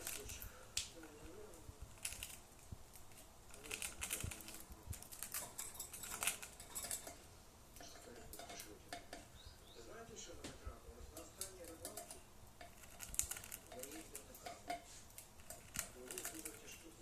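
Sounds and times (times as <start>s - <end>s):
budgerigars pecking and tapping: 0.0s - 17.0s.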